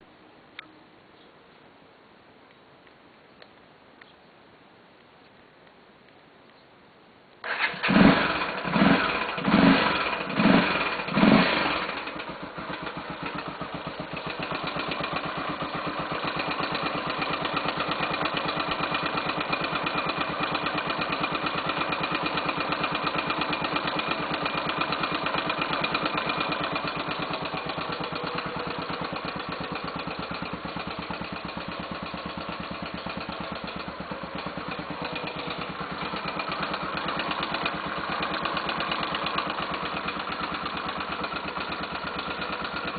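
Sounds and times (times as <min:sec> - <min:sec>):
motorcycle engine revving and idling: 0:07.4 - 0:42.9
engine tapping: 0:07.5 - 0:42.9.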